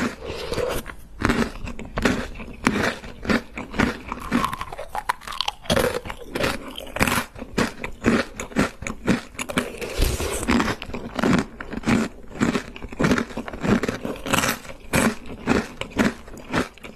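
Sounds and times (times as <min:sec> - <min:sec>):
crunchy cereal chewing: 0:00.0 - 0:16.9.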